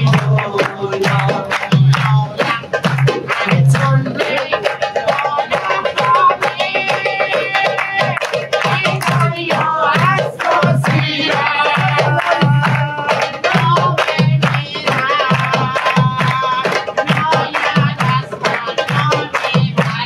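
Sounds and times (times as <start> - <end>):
hand drum: 0.0 - 20.0
hand-clapping: 0.0 - 20.0
men singing together: 0.0 - 20.0.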